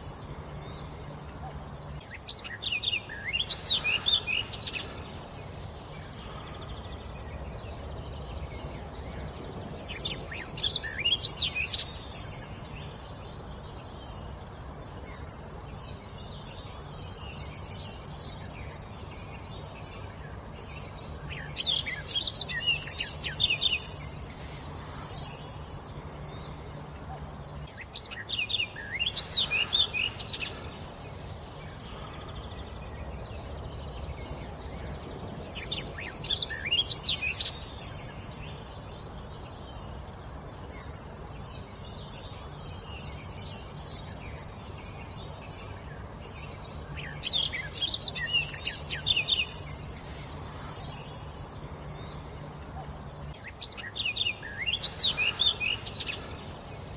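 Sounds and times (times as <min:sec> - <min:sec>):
low background hum: 0:00.0 - 0:56.9
songbird singing: 0:00.0 - 0:56.9.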